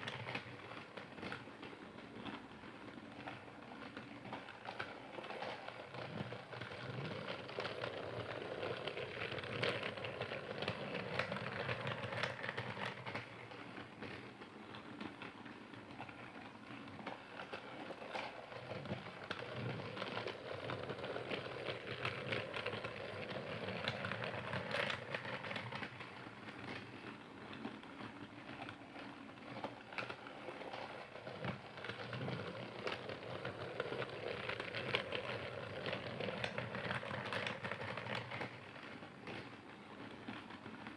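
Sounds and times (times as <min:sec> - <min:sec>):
toy train clattering on track: 0:03.2 - 0:40.9.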